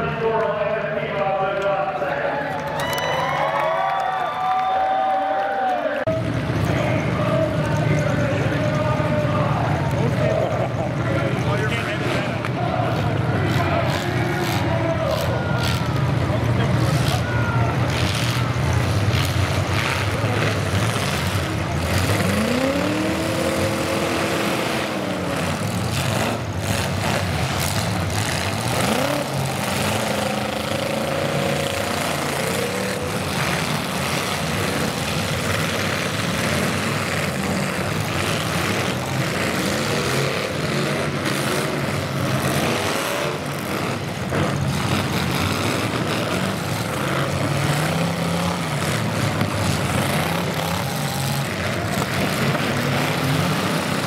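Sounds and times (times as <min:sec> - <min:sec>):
din of running engines: 0:00.0 - 0:54.0
car engines revving hard: 0:06.0 - 0:54.0.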